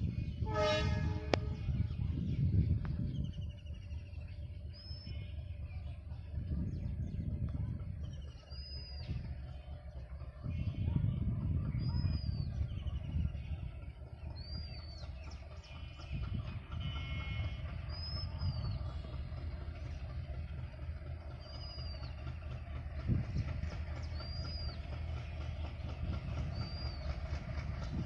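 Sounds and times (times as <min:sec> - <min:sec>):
locomotive engine rumbling: 0:00.0 - 0:28.0.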